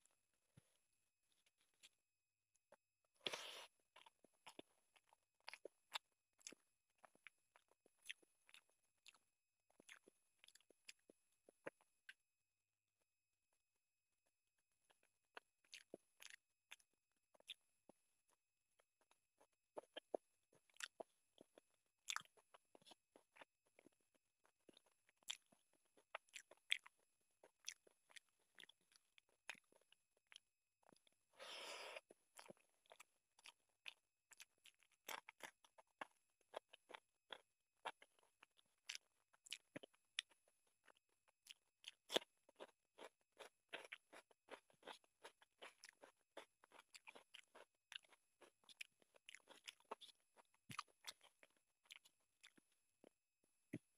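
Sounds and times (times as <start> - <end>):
wet chewing and lip smacking: 2.6 - 12.2, 14.9 - 53.9.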